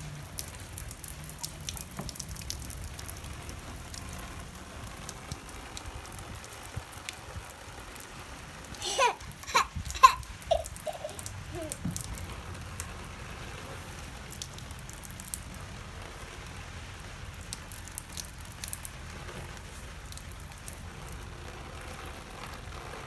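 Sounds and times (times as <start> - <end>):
low outdoor rumble: 0.0 - 23.0
raindrops ticking: 0.0 - 23.0.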